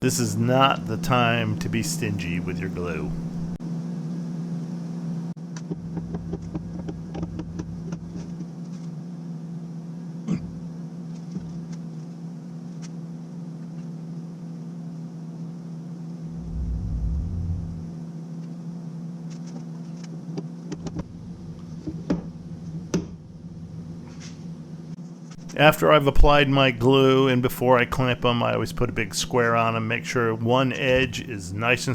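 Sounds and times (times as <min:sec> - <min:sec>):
low mechanical hum: 0:00.0 - 0:31.9.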